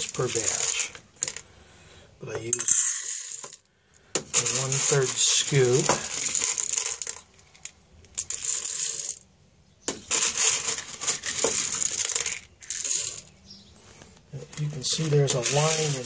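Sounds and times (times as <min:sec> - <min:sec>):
coffee beans rattling: 0:00.0 - 0:01.6, 0:02.2 - 0:09.3, 0:09.9 - 0:16.0.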